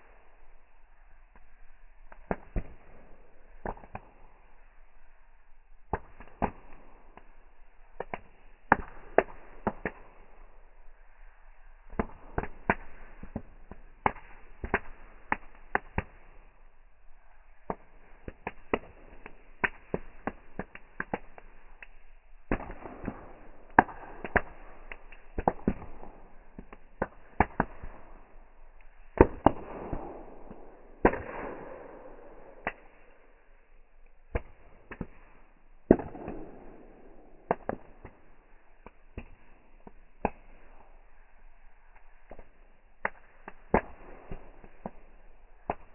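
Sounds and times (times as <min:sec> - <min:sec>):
wood crackling and popping: 0:00.4 - 0:33.1, 0:33.7 - 0:45.9.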